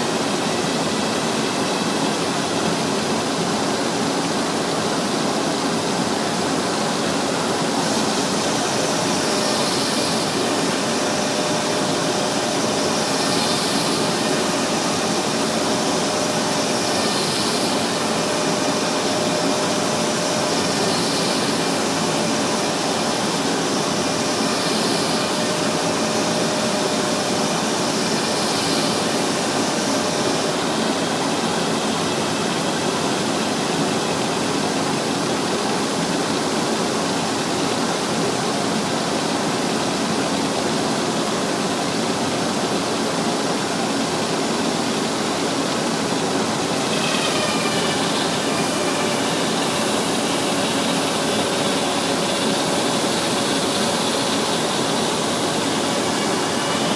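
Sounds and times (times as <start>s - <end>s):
high sanding hiss: 0.0s - 56.9s
sanding machine running: 0.0s - 56.9s.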